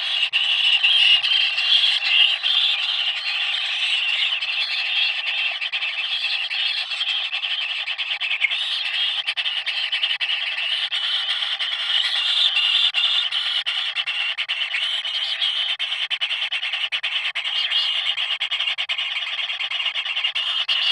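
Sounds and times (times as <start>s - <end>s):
shrill chorus of calling animals: 0.0s - 20.9s.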